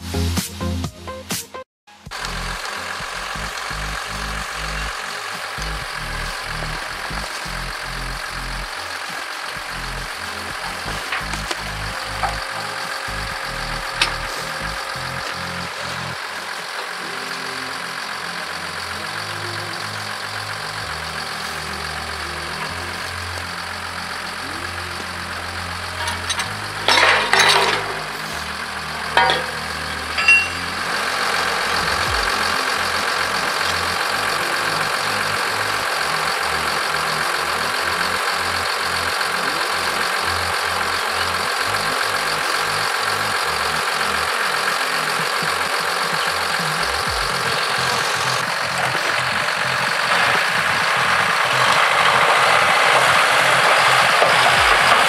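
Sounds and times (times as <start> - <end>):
diesel engine idling: 1.9 - 55.0.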